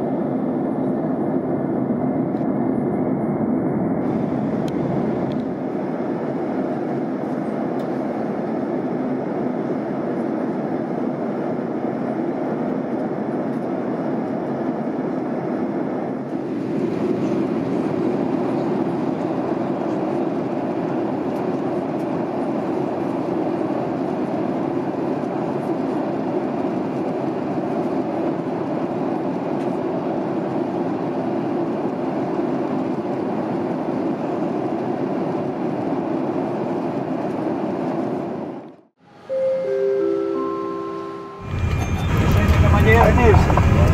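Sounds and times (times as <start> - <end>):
jet airliner cabin rumble: 0.0 - 38.9, 41.4 - 43.9.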